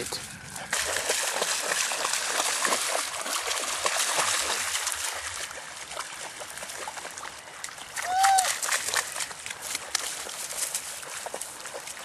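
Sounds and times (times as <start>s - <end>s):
dog splashing through water: 0.4s - 12.0s.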